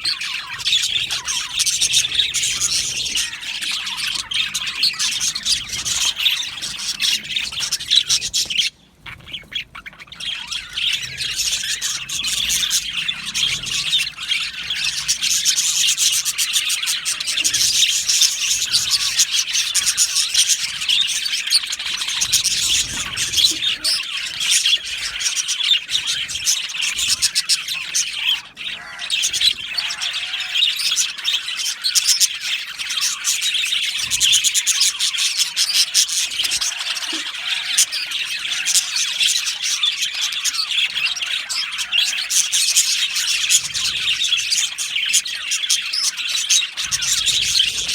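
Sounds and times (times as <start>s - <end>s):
budgerigars chattering and squawking: 0.0s - 47.9s.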